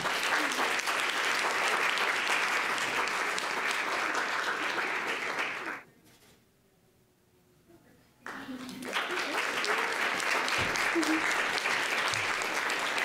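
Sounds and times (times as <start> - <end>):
audience applauding: 0.0 - 5.8, 8.3 - 13.0.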